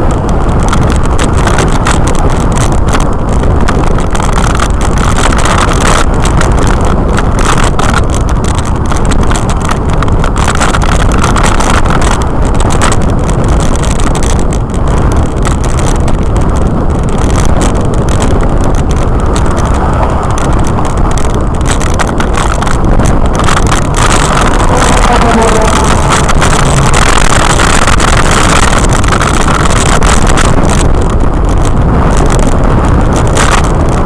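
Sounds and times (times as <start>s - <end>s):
road and traffic noise: 0.0s - 34.0s
wind buffeting microphone: 0.0s - 34.0s.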